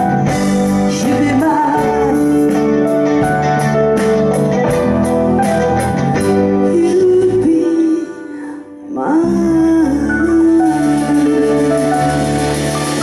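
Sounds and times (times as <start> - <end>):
guitar: 0.0 - 13.0
live band music: 0.0 - 13.0.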